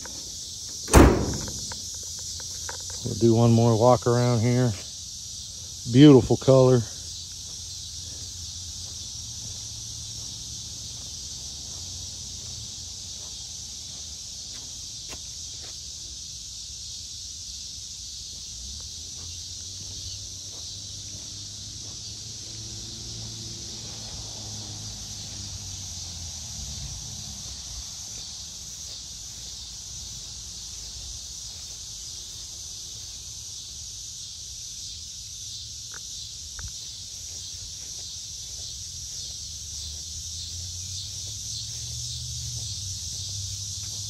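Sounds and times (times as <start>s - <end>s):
insects chorus: 0.0s - 44.0s.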